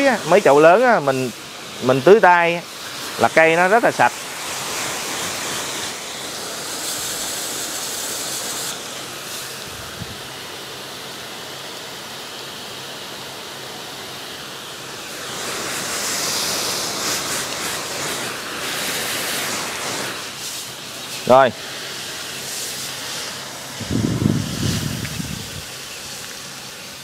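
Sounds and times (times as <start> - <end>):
water spray hissing: 0.0 - 27.0.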